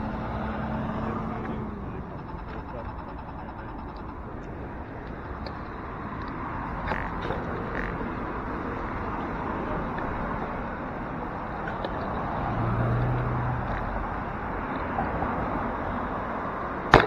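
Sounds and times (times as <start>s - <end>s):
city street traffic rush: 0.0s - 17.0s
vehicle engine hum: 0.0s - 17.0s.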